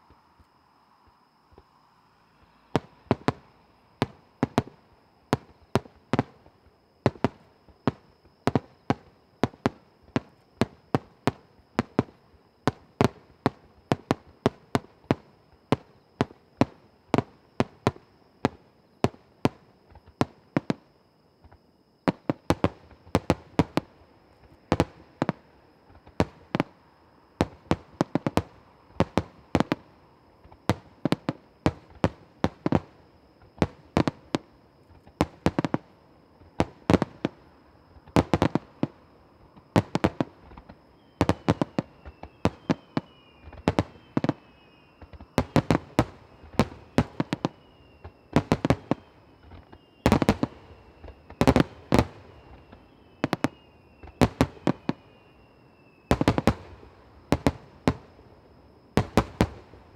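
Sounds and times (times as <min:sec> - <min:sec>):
fireworks bursting with sharp bangs: 0:02.4 - 0:20.8, 0:21.4 - 0:26.8, 0:27.4 - 0:59.9.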